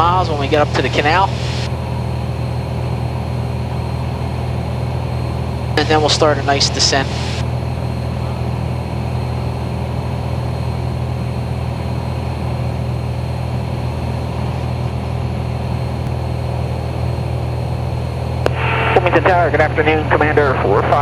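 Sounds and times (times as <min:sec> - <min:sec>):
aircraft engine and propeller drone: 0:00.0 - 0:21.0.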